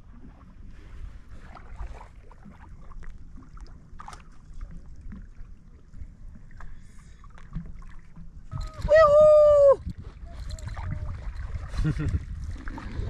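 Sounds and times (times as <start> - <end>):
wind and water around a boat: 0.0 - 13.0.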